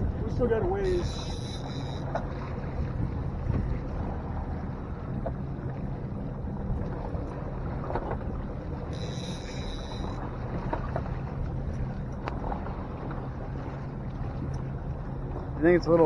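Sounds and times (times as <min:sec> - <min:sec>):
wind noise on microphone: 0:00.0 - 0:15.5
boat engine humming: 0:00.0 - 0:16.0.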